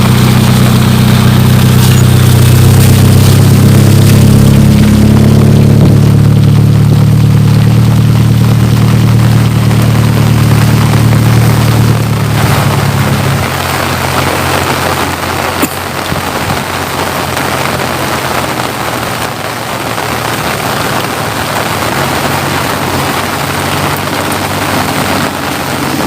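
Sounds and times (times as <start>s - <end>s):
rain falling: 0.0s - 26.0s
vehicle engine running: 0.0s - 26.0s.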